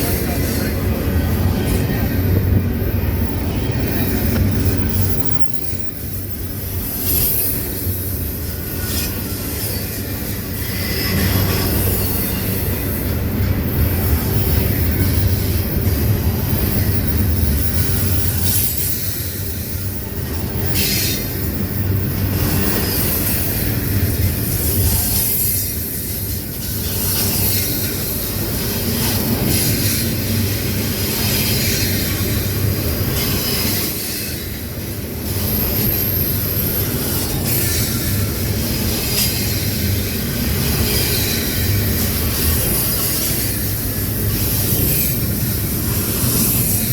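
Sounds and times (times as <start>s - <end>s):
train wheels rumbling over rails: 0.0s - 46.9s.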